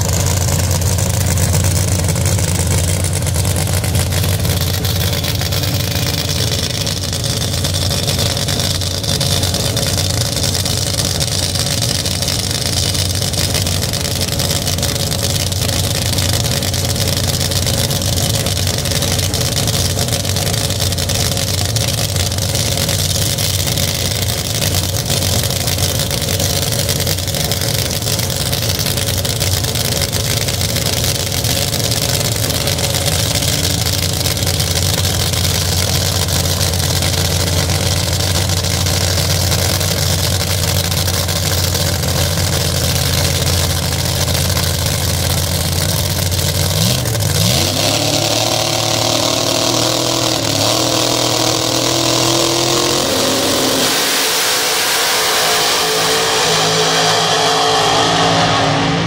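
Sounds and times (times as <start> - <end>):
drag racing engines revving: 0.0 - 59.0.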